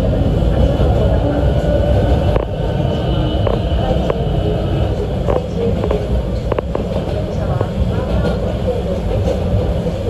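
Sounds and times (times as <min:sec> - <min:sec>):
train cabin rumble: 0:00.0 - 0:10.0.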